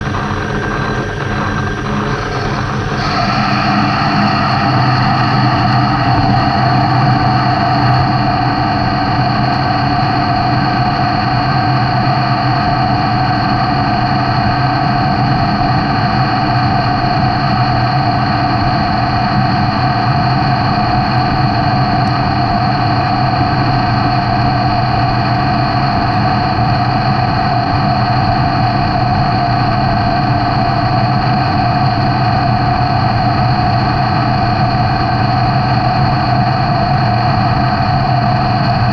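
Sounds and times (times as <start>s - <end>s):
machine tool motor whine: 0.1s - 38.9s.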